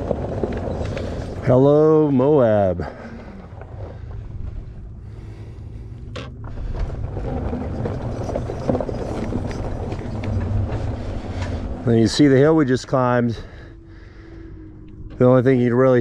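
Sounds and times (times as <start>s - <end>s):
tires crunching on dirt and rock: 0.0s - 16.0s.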